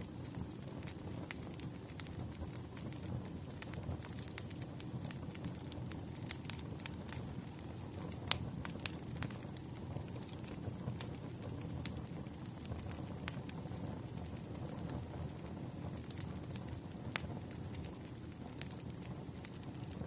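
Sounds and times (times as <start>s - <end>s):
firewood crackling and popping: 0.0s - 20.0s
low fire rumble: 0.0s - 20.0s.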